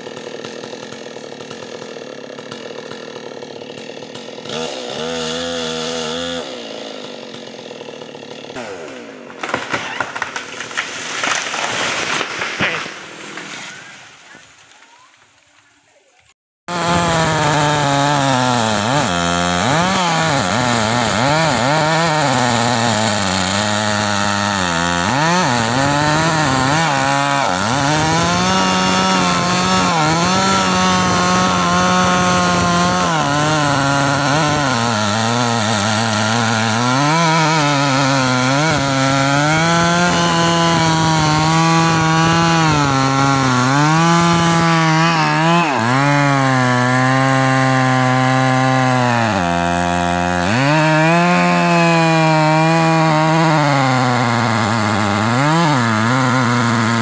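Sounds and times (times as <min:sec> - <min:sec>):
chainsaw cutting wood: 0:00.0 - 0:15.4, 0:16.7 - 0:57.0.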